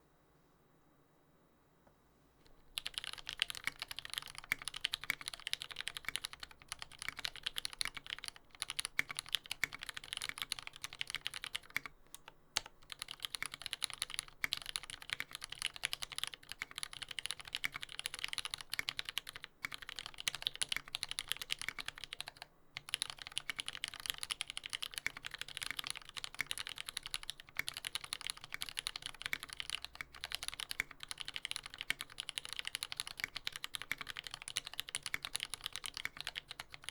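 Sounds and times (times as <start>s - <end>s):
typing on mechanical keyboard: 2.7s - 36.9s.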